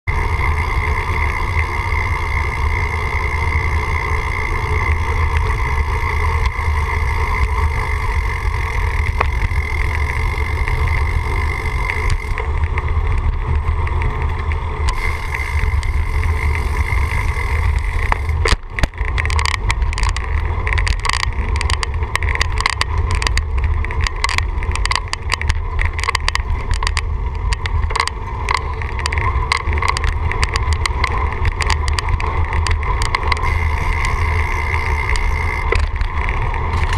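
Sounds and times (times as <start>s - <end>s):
rapid crackles and buffets: 0.0s - 36.9s
steady whine: 0.0s - 36.9s
vehicle rumble: 0.0s - 36.9s.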